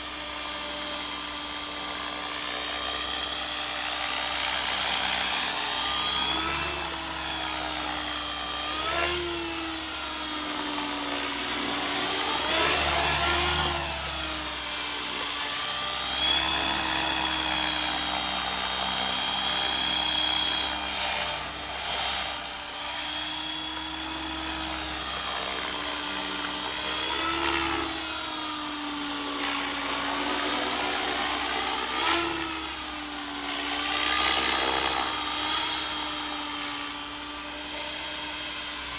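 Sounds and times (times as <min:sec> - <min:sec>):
rc helicopter motor whine: 0:00.0 - 0:38.9
rotor whirring: 0:00.0 - 0:38.9.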